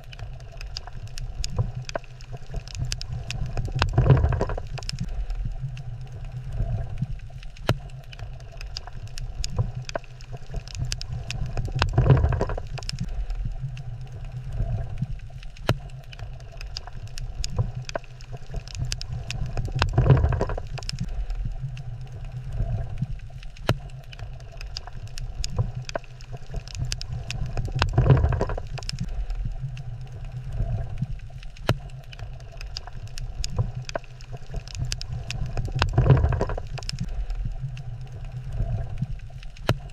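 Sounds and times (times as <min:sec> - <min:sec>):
low underwater rumble: 0:00.0 - 0:39.9
sharp clicks and crackles: 0:00.0 - 0:39.9.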